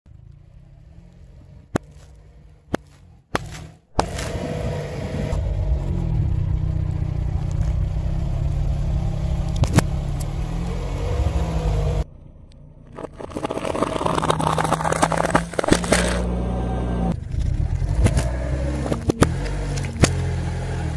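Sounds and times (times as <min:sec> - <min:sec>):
car engine running: 0:00.1 - 0:20.9.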